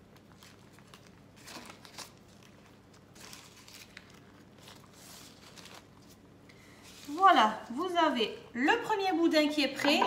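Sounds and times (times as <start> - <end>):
baking paper rustling: 0.0 - 8.4.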